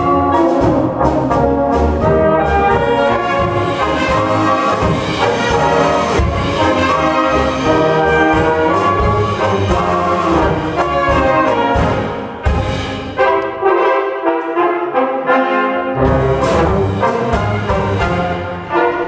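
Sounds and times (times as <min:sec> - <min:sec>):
brass band playing a polka: 0:00.0 - 0:19.0.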